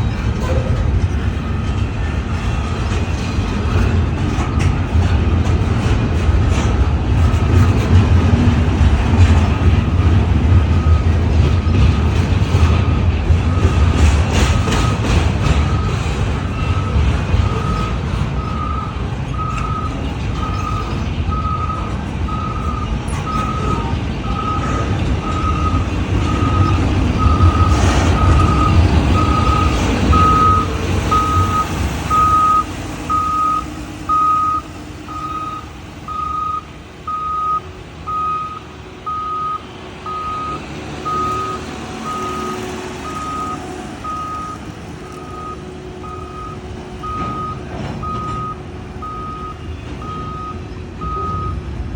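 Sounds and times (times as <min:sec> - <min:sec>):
reversing alarm beeping: 0:00.0 - 0:05.9, 0:06.5 - 0:51.9
freight train rumble: 0:00.0 - 0:51.9.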